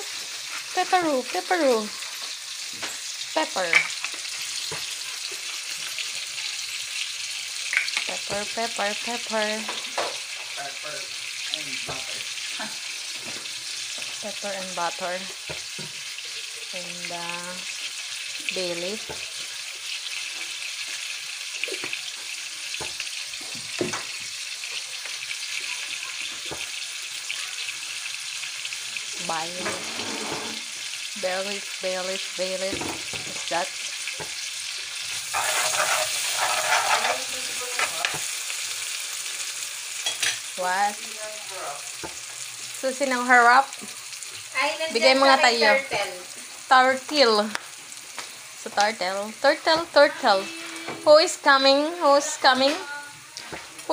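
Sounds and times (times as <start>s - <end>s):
food sizzling in a wok: 0.0s - 53.9s.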